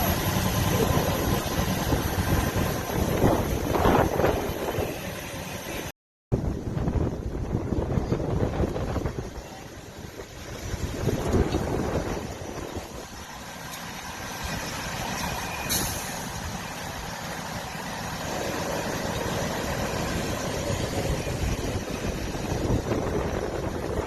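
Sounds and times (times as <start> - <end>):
fire truck engine running: 0.0 - 24.0.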